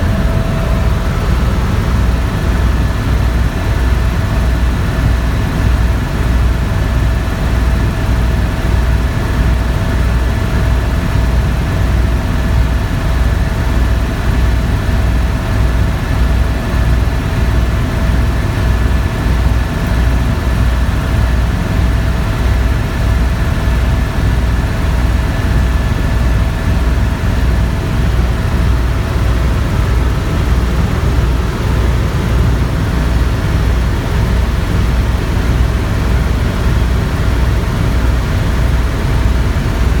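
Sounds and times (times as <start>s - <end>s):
helicopter rotor and engine: 0.0s - 40.0s.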